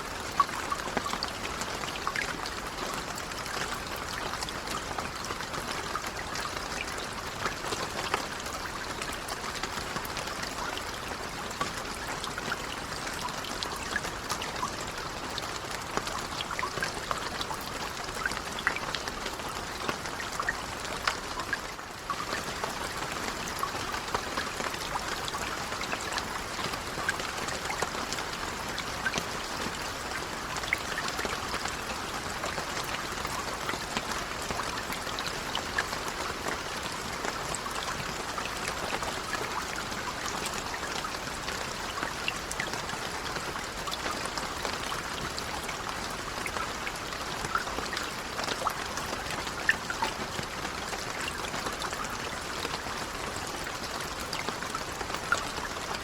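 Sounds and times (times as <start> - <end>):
raindrops ticking close by: 0.0 - 56.0
steady gentle rain: 0.0 - 56.0.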